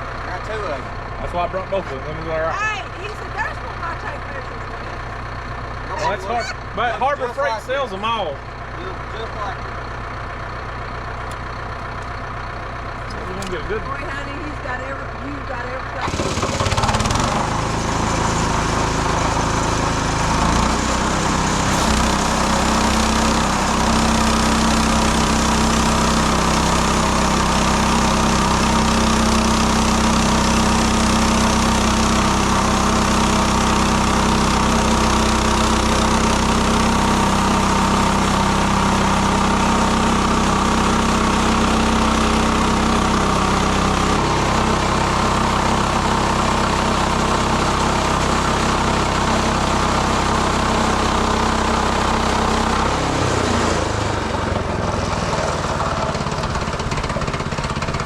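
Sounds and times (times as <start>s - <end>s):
sawmill engine revving: 0.0s - 58.0s.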